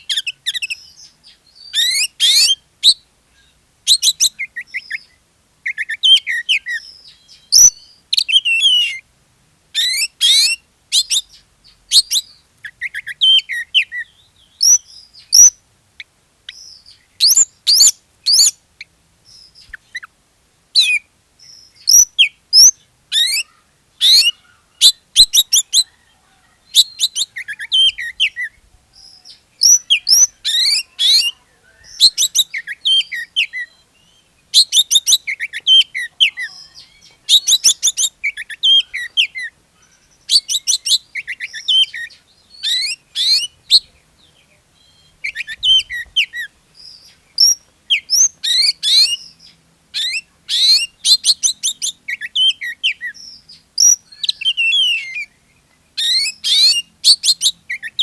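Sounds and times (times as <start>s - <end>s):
bird singing chirps and trills: 0.0s - 9.0s, 9.8s - 15.6s, 16.5s - 20.1s, 20.8s - 58.0s.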